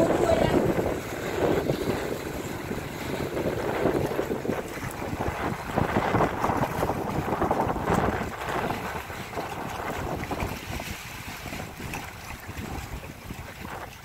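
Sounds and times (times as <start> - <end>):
water rushing past boat hull: 0.0 - 14.0
wind buffeting microphone: 0.0 - 14.0.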